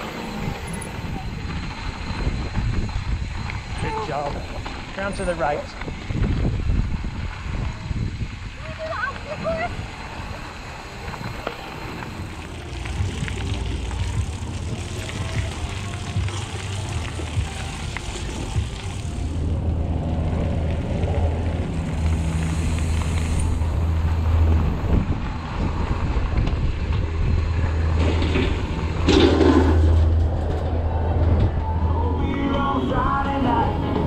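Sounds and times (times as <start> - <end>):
wind on camera: 0.0 - 32.0
bike tyres rolling on gravel: 0.0 - 33.8.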